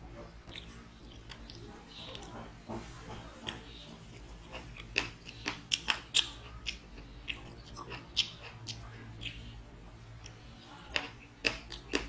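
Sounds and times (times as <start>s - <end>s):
chewing food: 0.1s - 12.0s.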